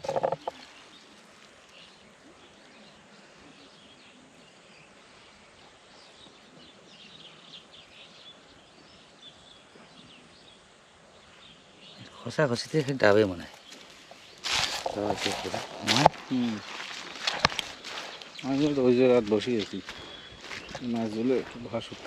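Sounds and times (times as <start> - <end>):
faint outdoor ambience: 0.0 - 22.0
small birds chirping: 0.0 - 22.0.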